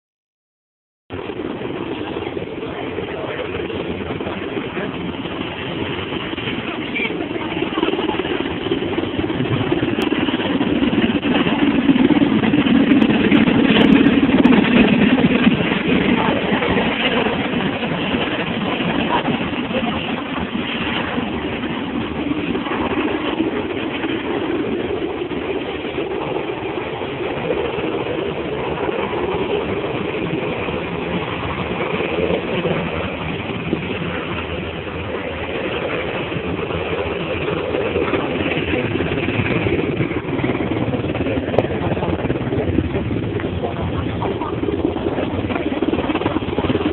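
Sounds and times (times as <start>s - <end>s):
helicopter engine and rotor: 1.1s - 46.9s.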